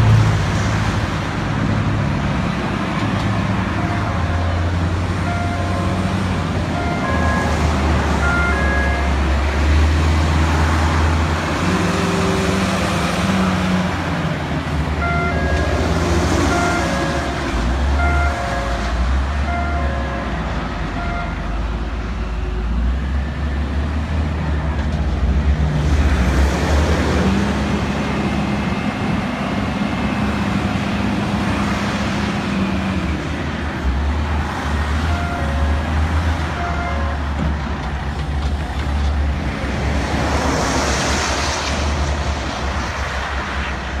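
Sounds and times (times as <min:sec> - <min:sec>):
heavy diesel machinery engine rumble: 0:00.0 - 0:44.0.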